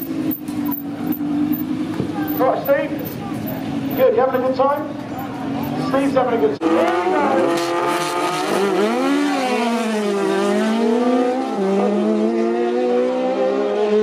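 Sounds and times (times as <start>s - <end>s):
race car engine running: 0.0s - 12.1s.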